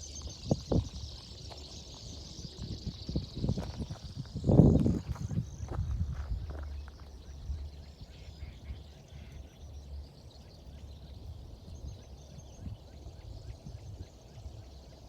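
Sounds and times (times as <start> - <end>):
steady low rumble: 0.0 - 14.8
small birds chirping: 0.0 - 15.0.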